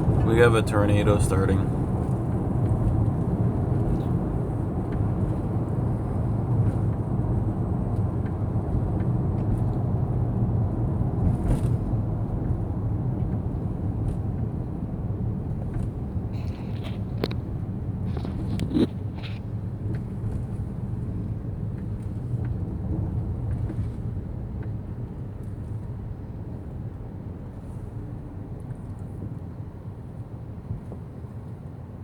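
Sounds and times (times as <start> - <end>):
truck engine rumbling: 0.0 - 28.4.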